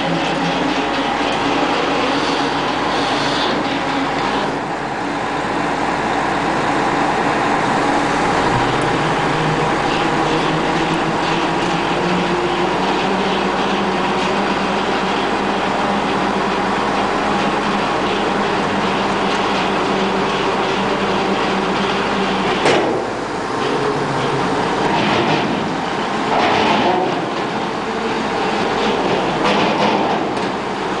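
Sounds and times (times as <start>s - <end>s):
diesel excavator engine running: 0.0s - 31.0s
tracks rattling: 0.0s - 31.0s.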